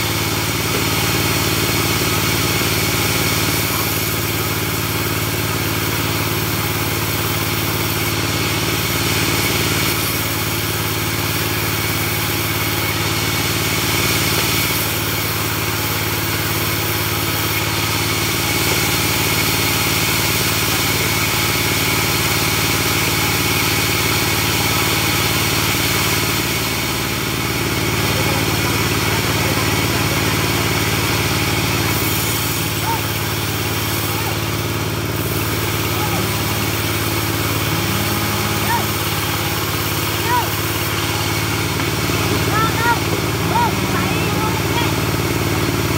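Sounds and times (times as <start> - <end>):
bandsaw sawing a log: 0.0 - 45.9.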